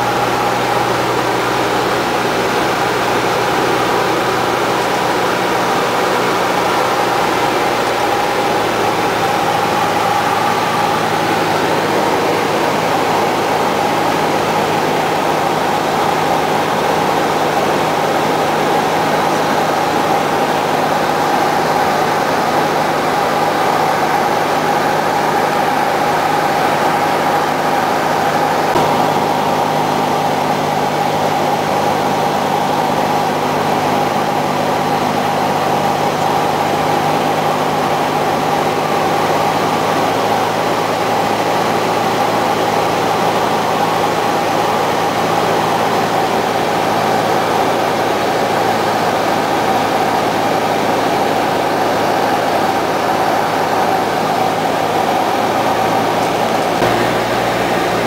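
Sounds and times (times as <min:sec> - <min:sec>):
airflow noise: 0:00.0 - 0:58.0
light aircraft engine drone: 0:00.0 - 0:58.0.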